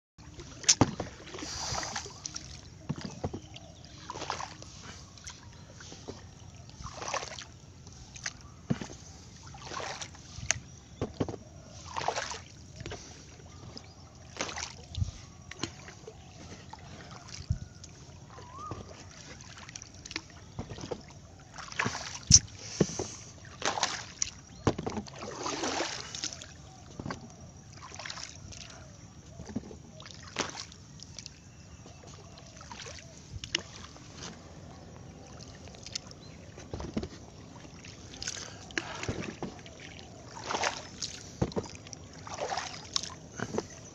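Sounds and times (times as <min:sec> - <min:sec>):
water splashing beside boat: 0:00.2 - 0:43.9.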